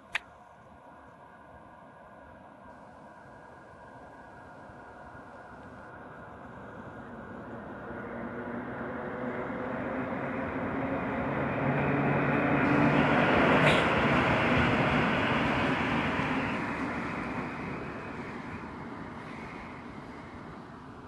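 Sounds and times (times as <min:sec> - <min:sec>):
freight train approaching: 0:00.7 - 0:21.0.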